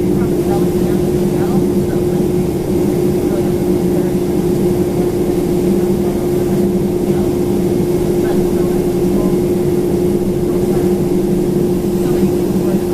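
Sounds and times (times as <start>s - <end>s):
airliner cabin drone: 0.0s - 12.9s.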